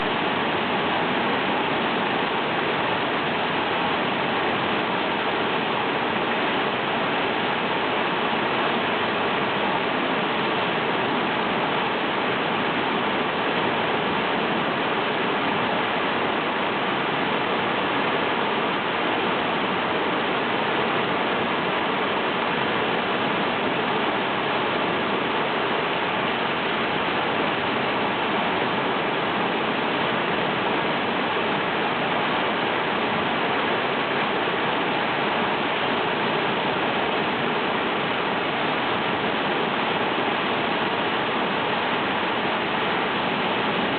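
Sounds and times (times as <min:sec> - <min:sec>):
flooded river rushing: 0:00.0 - 0:43.9.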